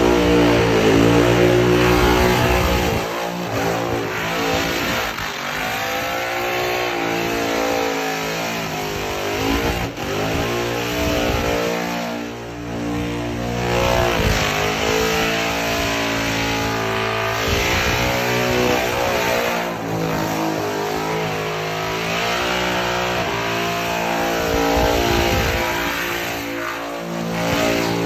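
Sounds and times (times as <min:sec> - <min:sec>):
supercharged engine revving: 0:00.0 - 0:28.0.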